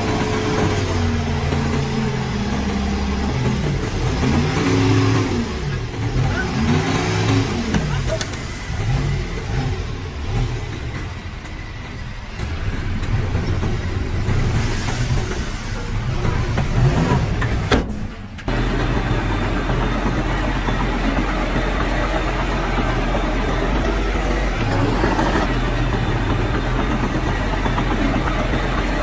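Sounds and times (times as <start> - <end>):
heavy diesel engine revving: 0.0 - 29.0.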